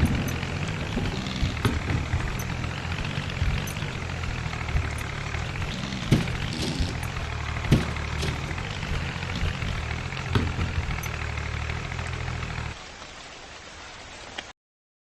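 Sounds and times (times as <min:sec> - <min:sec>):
diesel tractor engine running: 0:00.0 - 0:12.8
sharp engine knocks: 0:00.0 - 0:12.8.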